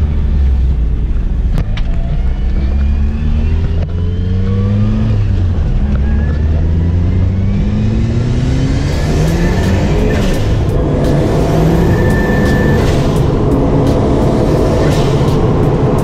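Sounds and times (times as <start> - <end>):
car engine accelerating through gears: 0.0 - 16.0.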